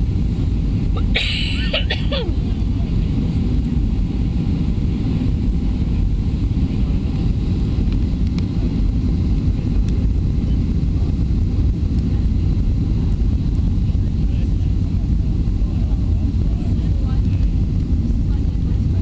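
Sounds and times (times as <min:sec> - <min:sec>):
airplane cabin rumble: 0:00.0 - 0:19.0
rushing air: 0:00.0 - 0:19.0.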